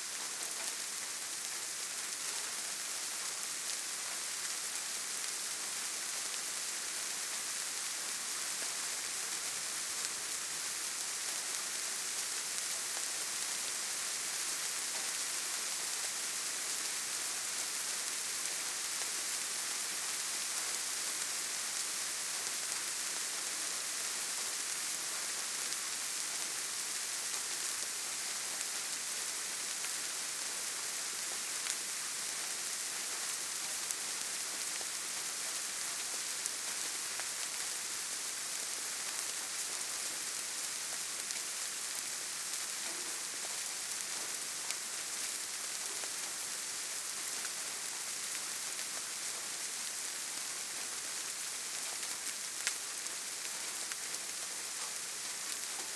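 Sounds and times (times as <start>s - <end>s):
rain pattering on foliage: 0.0s - 55.9s.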